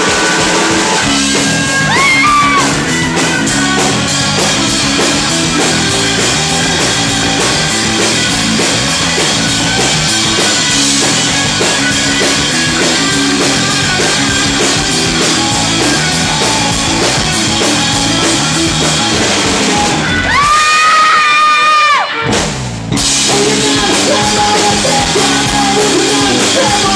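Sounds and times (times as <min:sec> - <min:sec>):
rock band playing live: 0:00.0 - 0:26.9.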